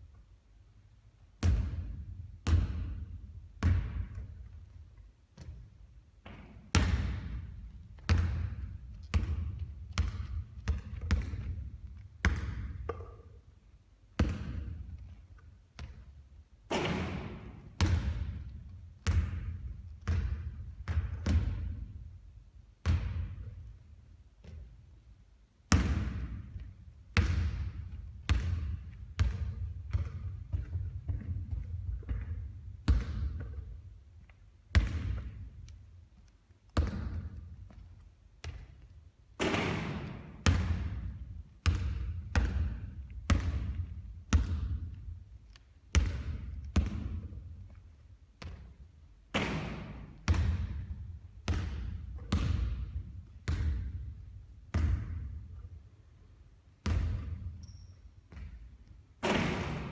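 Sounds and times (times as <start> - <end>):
basketball bouncing: 1.4 - 4.8, 5.4 - 13.4, 14.2 - 15.2, 15.8 - 22.0, 22.8 - 23.7, 25.7 - 34.0, 34.8 - 35.8, 36.7 - 45.2, 45.9 - 47.8, 48.4 - 55.6, 56.8 - 59.9.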